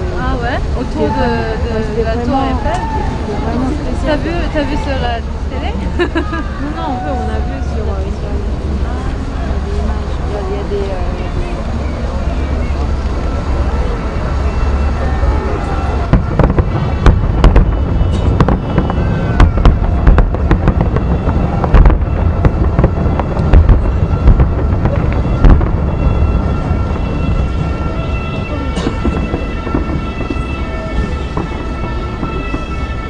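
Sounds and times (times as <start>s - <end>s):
fireworks bangs and crackles: 0.0s - 33.0s
deep fireworks booming: 2.3s - 33.0s.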